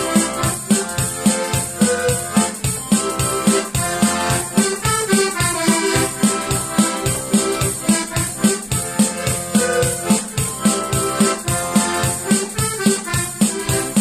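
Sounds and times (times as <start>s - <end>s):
piano accordion playing chords: 0.0s - 14.0s
steady bass beat: 0.0s - 14.0s.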